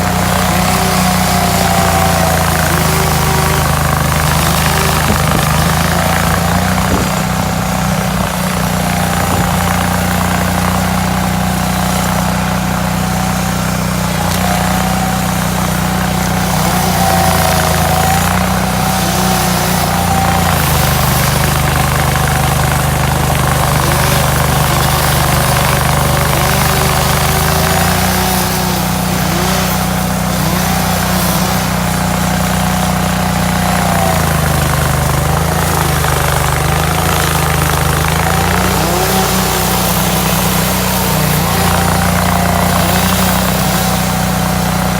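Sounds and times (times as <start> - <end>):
stump grinder engine running: 0.0 - 44.9.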